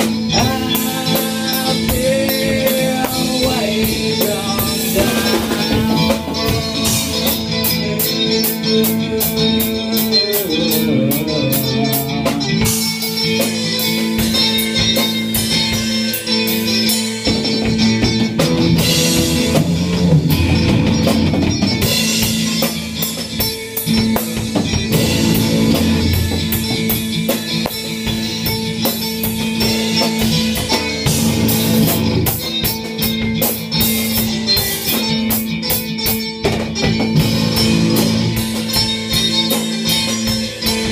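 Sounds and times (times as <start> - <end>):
electric guitar: 0.0 - 40.9
rock band playing live: 0.0 - 40.9.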